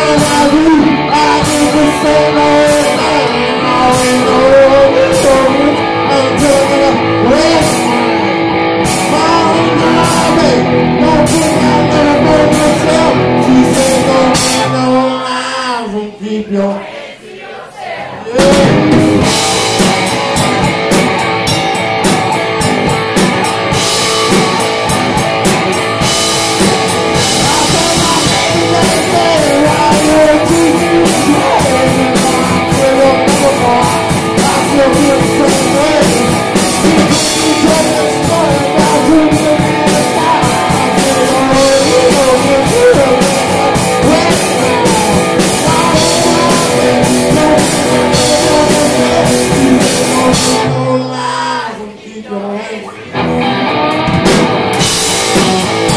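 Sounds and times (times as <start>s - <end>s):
drum kit beat: 0.0s - 15.1s, 18.3s - 50.9s, 53.2s - 55.9s
electric guitar: 0.0s - 15.6s, 18.3s - 51.6s, 52.9s - 55.9s
man singing: 0.0s - 19.6s, 27.0s - 54.0s.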